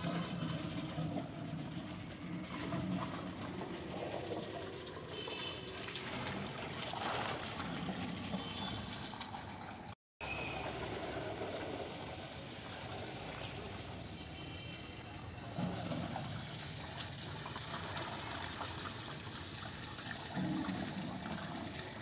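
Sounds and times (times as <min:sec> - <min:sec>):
water pouring into steel tub: 0:00.0 - 0:22.0.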